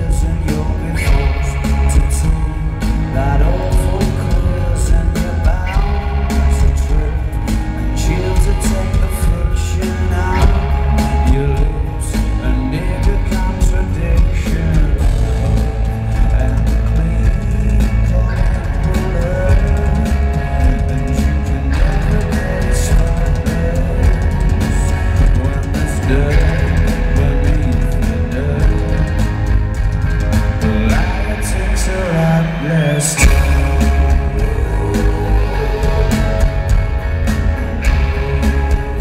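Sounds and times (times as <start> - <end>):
live rock band: 0.0 - 39.0.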